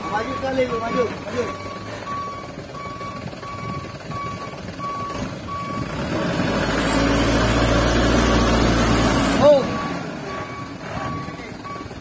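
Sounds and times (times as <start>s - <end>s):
diesel engine revving: 0.0s - 12.0s
truck reversing alarm beeping: 0.0s - 12.0s.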